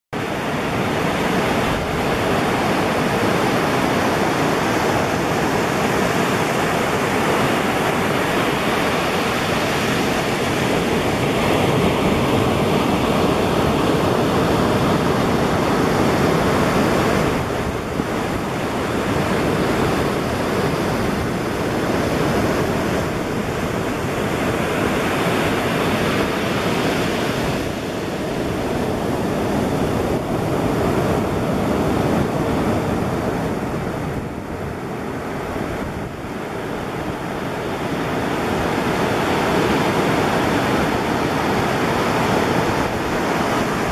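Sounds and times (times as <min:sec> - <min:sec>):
ocean surf breaking on beach: 0:00.2 - 0:43.9.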